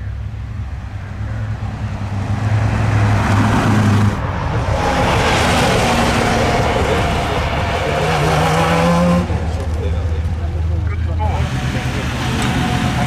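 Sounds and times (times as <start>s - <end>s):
race car engine accelerating: 0.6s - 13.0s.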